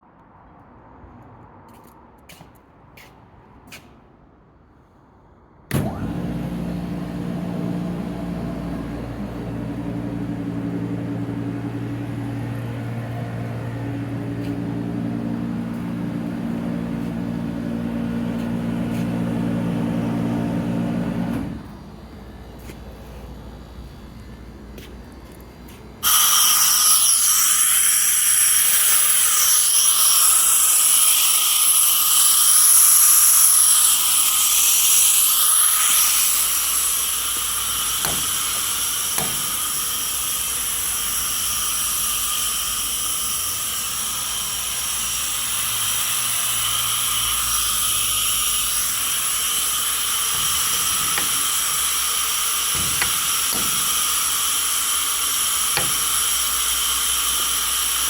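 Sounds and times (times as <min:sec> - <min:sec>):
air compressor whine: 0:05.7 - 0:58.0.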